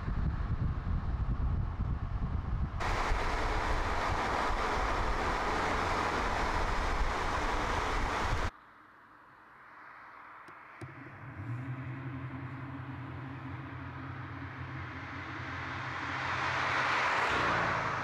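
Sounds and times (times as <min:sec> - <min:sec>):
low engine hum: 0:00.0 - 0:08.5, 0:10.5 - 0:18.0
road and wind noise: 0:00.0 - 0:18.0.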